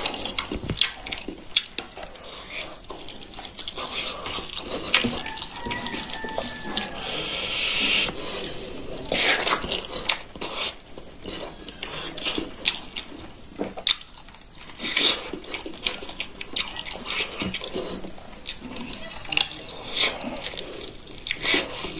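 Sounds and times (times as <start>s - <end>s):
wet chewing and lip-smacking: 0.0s - 21.9s.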